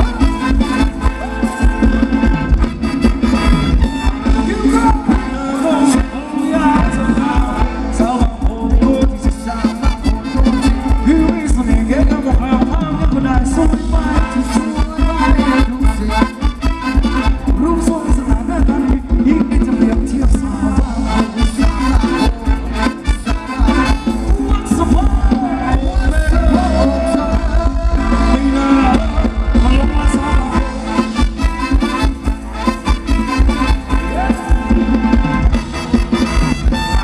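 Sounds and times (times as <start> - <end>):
live band playing dance music: 0.0 - 37.0.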